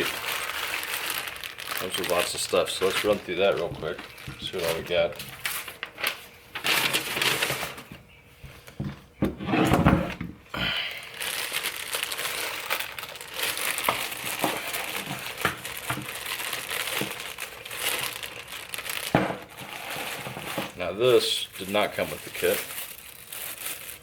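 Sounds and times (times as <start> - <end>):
plastic bags crinkling: 0.0 - 7.9, 10.6 - 24.0.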